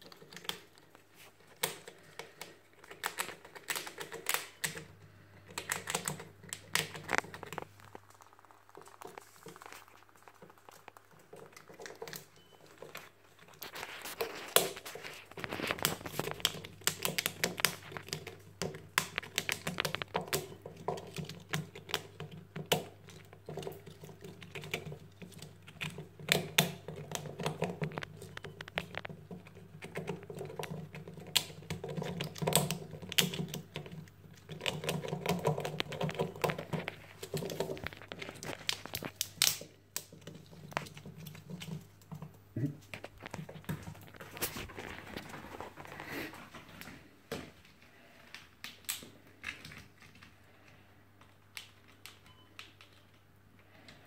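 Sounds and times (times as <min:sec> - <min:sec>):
squirrel gnawing pine cone: 0:00.0 - 0:54.0.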